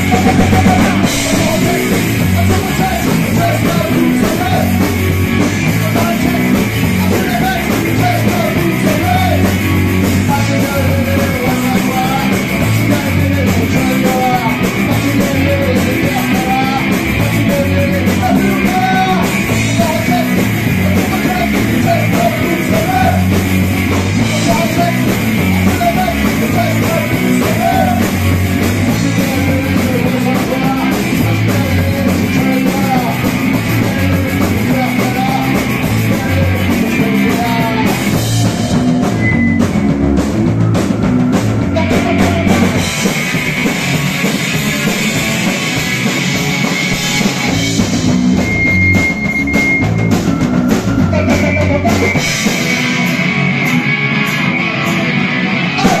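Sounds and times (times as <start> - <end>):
man singing: 0.0 - 39.8, 41.6 - 48.1, 50.7 - 53.2, 55.6 - 56.0
punk rock band playing: 0.0 - 56.0.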